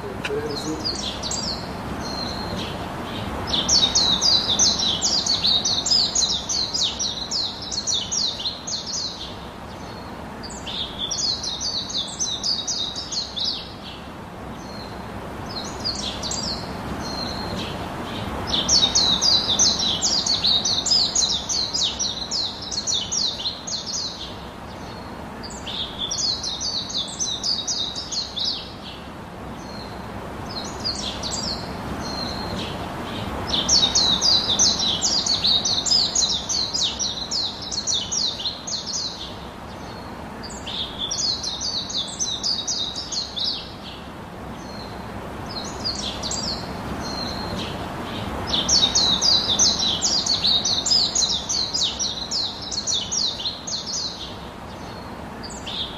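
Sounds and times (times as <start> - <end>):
songbird chirping: 0.0 - 55.9
steady background hiss: 0.0 - 55.9.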